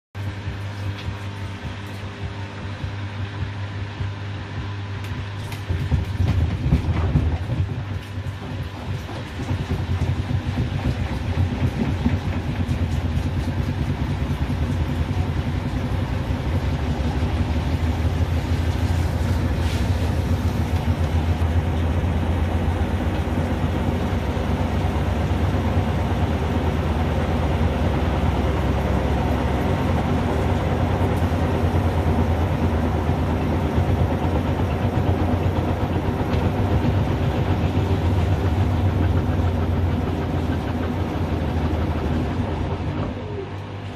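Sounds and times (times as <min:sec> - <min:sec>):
washing machine spinning: 0:00.2 - 0:43.9.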